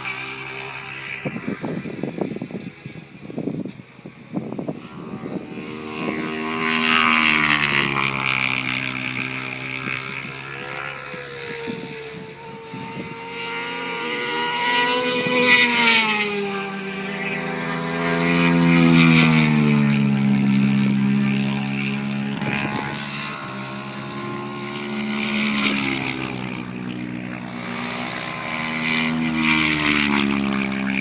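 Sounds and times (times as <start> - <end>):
motorcycles passing by: 0.0 - 31.0.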